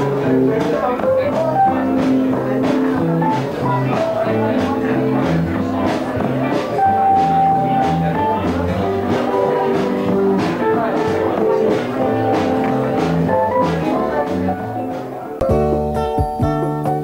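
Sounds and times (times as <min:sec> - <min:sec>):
instrumental music with beat: 0:00.0 - 0:17.0.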